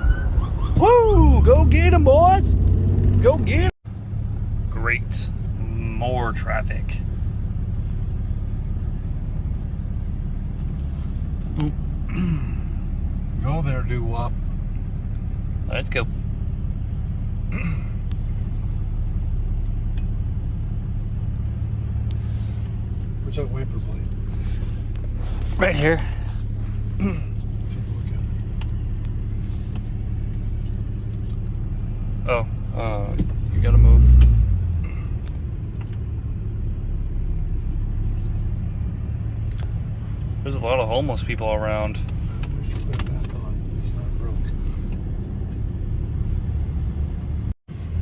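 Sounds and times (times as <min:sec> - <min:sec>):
diesel truck engine rumble: 0:00.0 - 0:48.0
road noise: 0:00.0 - 0:48.0.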